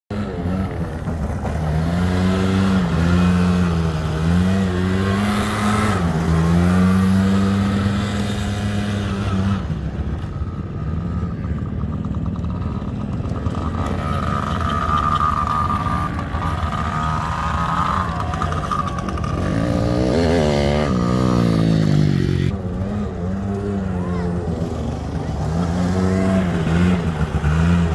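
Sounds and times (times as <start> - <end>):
engine revving: 0.1 - 27.9
engines running with high whine: 0.1 - 27.9.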